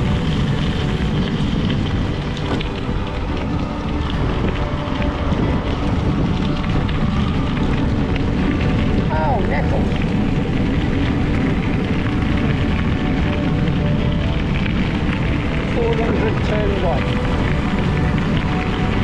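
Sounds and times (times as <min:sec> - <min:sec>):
bicycle tyres on rough ground: 0:00.0 - 0:19.0
wind buffeting microphone: 0:00.0 - 0:19.0.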